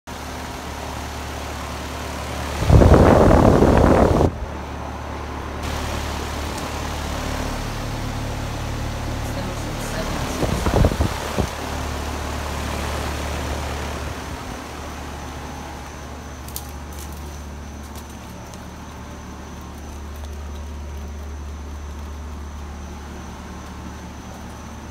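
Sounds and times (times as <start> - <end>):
heat pump humming: 0.1 - 24.9.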